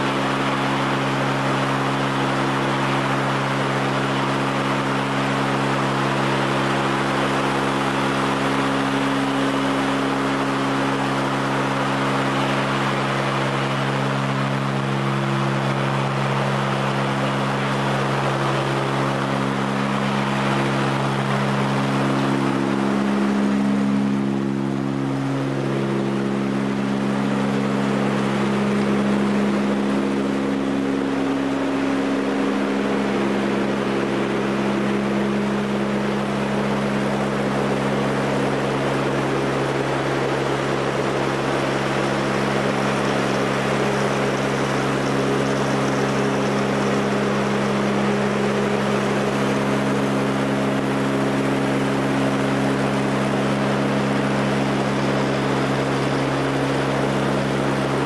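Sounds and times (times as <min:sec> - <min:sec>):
propeller engine drone: 0:00.0 - 0:58.0.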